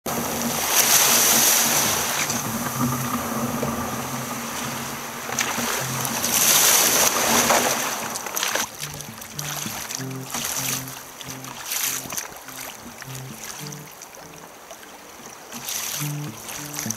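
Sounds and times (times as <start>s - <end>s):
sea water splashing against hull: 0.1s - 16.9s.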